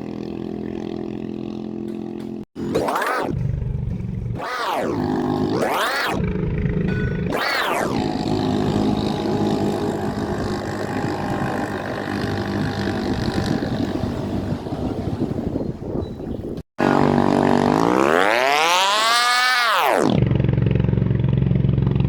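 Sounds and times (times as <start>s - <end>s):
racing boat engine running: 0.0s - 16.0s, 16.8s - 22.0s.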